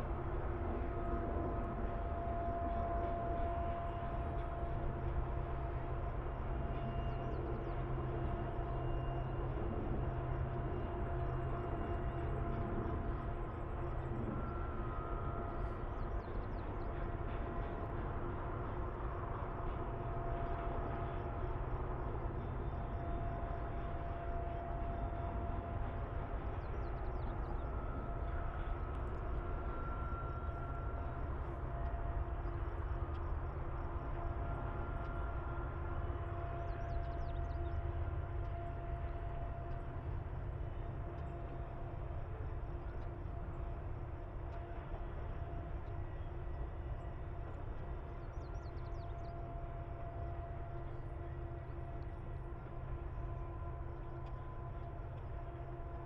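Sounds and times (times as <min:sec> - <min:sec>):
faint thin whining tones: 0:00.0 - 0:56.0
train wheels rumbling on rail: 0:00.0 - 0:56.0.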